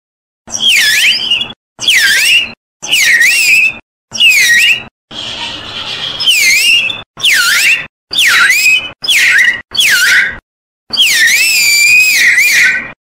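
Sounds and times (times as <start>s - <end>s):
wooden bird whistle chirps: 0.5s - 5.5s, 6.1s - 13.0s.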